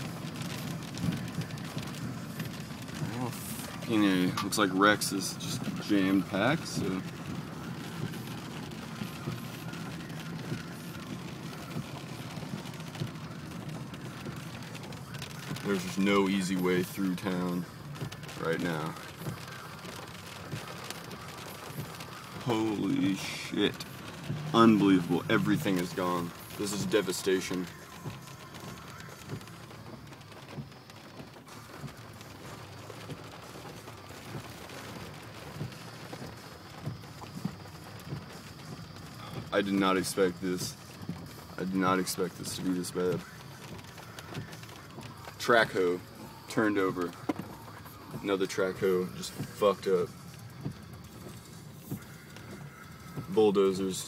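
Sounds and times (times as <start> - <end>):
car engine and road noise: 0.0 - 54.0
light raindrop knocks: 0.0 - 54.0.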